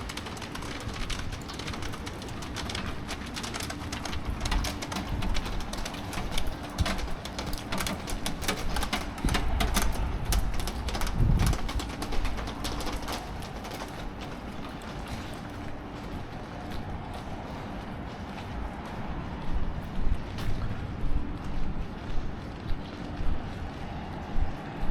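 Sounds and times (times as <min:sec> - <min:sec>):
rain dripping and pattering: 0:00.0 - 0:24.9.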